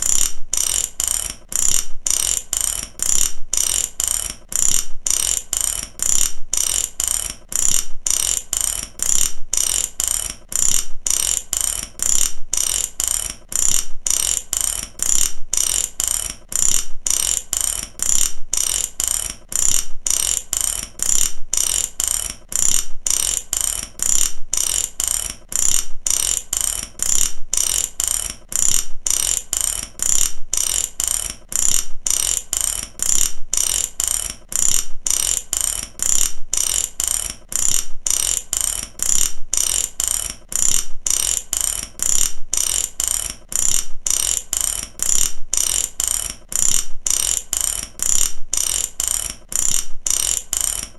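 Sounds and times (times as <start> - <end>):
metal ratchet clicking: 0.0 - 50.9.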